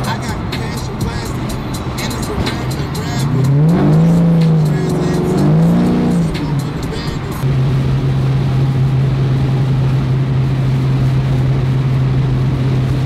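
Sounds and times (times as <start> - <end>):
car engine drone: 0.0 - 13.0
wind and road noise: 0.0 - 13.0.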